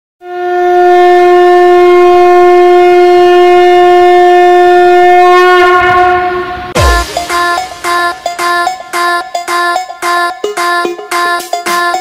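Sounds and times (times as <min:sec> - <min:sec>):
conch shell blown: 0:00.2 - 0:11.3.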